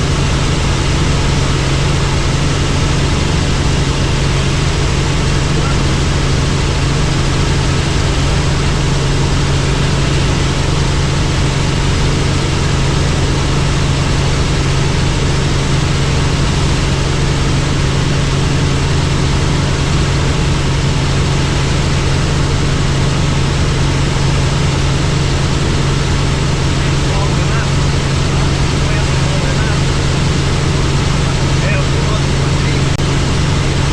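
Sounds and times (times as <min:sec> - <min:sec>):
helicopter engine and rotor drone: 0:00.0 - 0:33.9.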